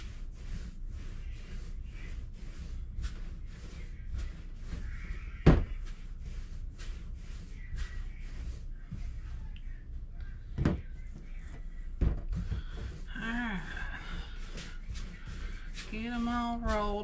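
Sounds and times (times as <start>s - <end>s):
dough rolled by hand: 0.0s - 17.0s.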